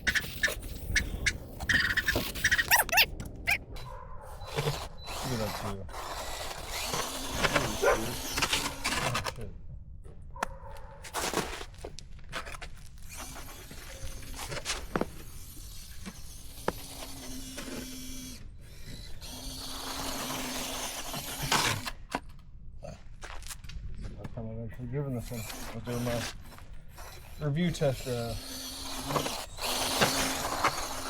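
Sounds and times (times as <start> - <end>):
toy car electric motor whining: 0.0 - 9.5, 12.4 - 22.3, 25.1 - 31.0.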